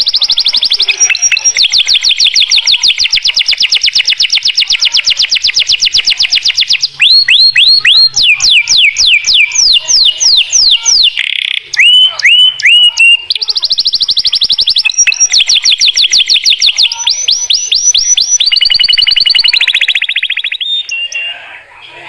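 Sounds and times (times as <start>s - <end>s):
canary singing trills: 0.0s - 21.6s.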